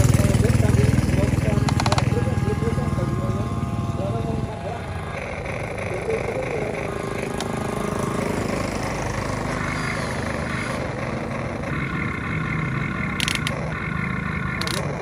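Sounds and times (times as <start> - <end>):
model excavator motor running: 0.0 - 15.0.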